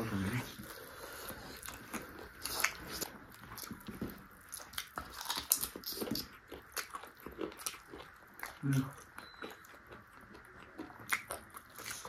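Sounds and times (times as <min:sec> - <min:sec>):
person chewing: 0:00.2 - 0:12.0.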